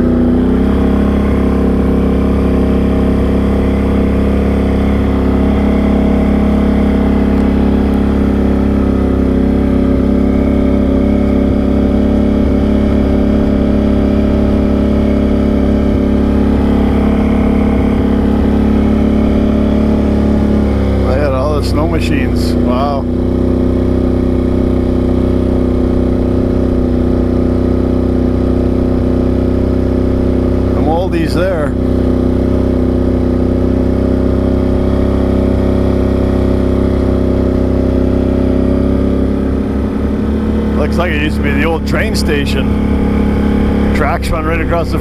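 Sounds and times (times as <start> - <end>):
atv engine running steadily: 0.0 - 45.0.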